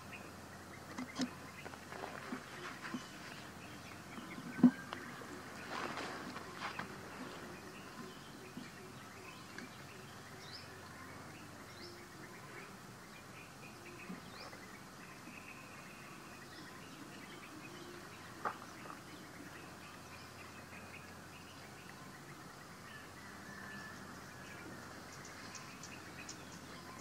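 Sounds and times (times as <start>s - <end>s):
steady low hiss: 0.0s - 27.0s.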